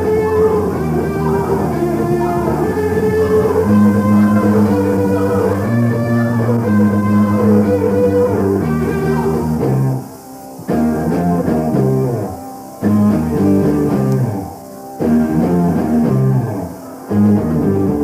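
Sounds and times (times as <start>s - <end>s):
hard rock band playing live: 0.0s - 18.0s.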